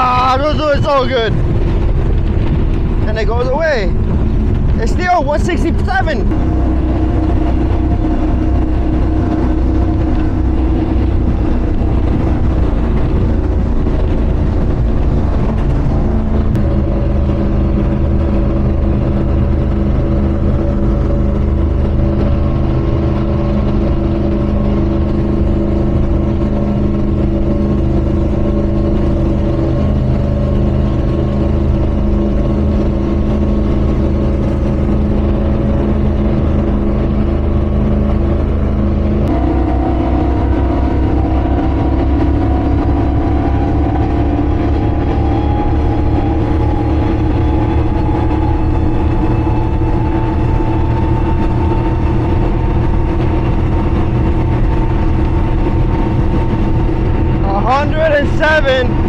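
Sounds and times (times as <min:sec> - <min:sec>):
boat engines running loud: 0:00.0 - 0:59.0
wind and water rushing: 0:00.0 - 0:59.0.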